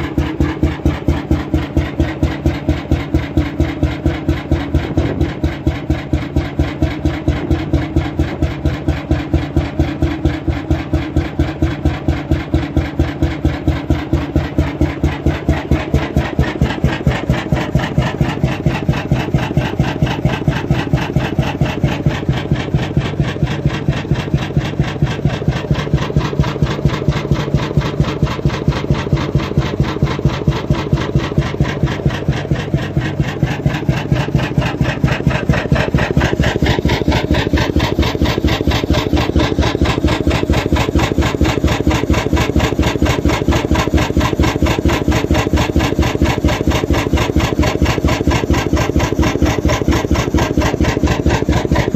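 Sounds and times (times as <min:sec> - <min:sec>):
oil engine running steadily: 0:00.0 - 0:51.9.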